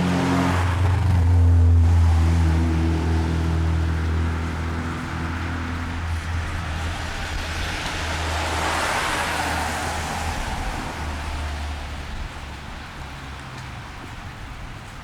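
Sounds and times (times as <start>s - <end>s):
tyres hissing on wet road: 0.0s - 15.0s.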